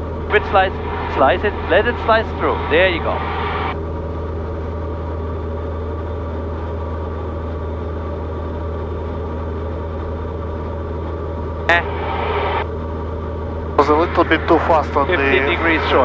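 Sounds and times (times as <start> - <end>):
light aircraft engine drone: 0.0 - 16.0.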